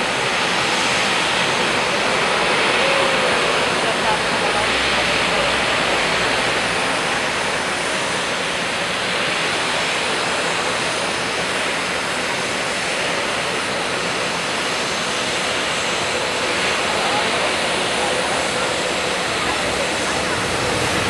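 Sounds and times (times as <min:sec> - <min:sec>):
airliner jet roar on landing: 0:00.0 - 0:21.0.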